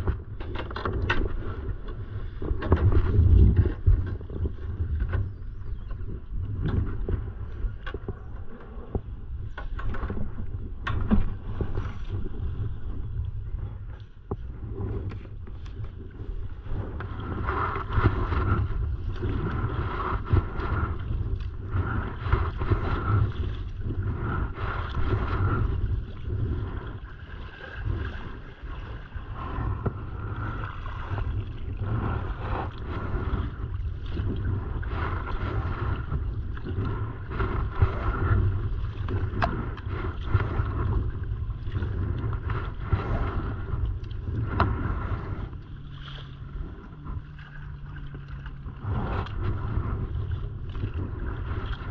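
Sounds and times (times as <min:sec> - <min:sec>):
water lapping at hull: 0:00.0 - 0:51.9
wind rumble on microphone: 0:00.0 - 0:51.9.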